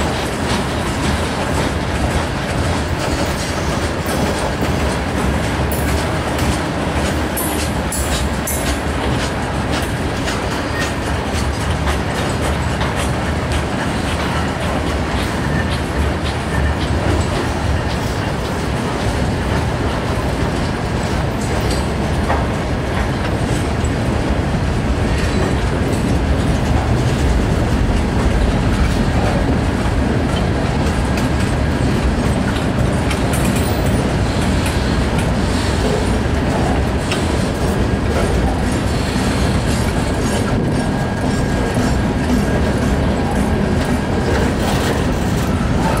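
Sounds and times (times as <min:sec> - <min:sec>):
train wheels rumbling on rail: 0:00.0 - 0:46.0
wheels clicking over rail joints: 0:00.0 - 0:46.0.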